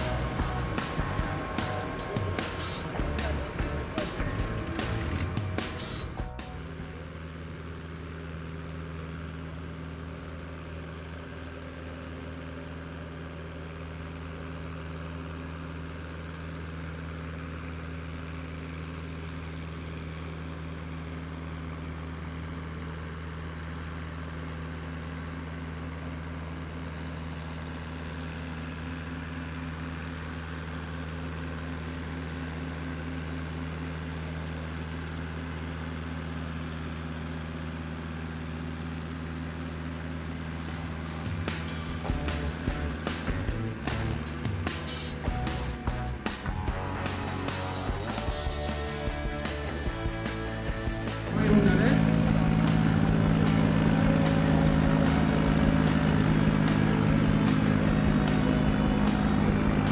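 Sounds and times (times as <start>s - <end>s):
tractor engine under heavy load: 0.0s - 59.9s.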